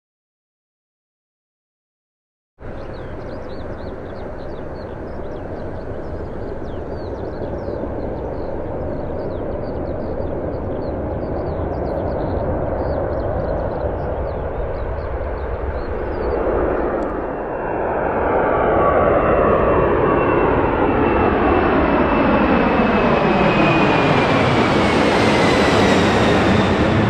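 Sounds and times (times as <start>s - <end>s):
aircraft engine rumble: 2.6s - 27.0s.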